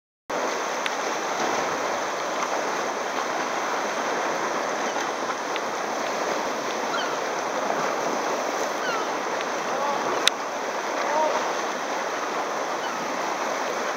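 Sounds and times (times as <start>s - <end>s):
water sloshing around kayak: 0.3s - 13.9s.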